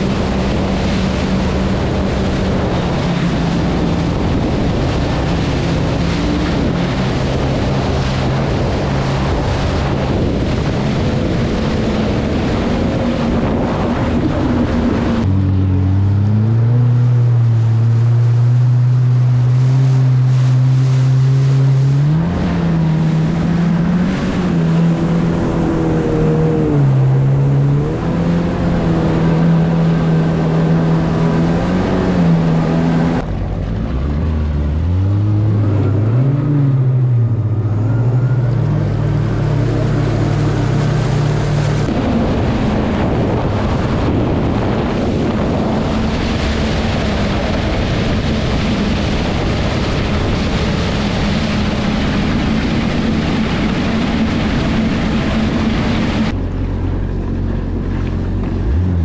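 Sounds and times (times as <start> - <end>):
jet ski engines running: 0.0 - 59.0
rushing water and spray: 0.0 - 59.0.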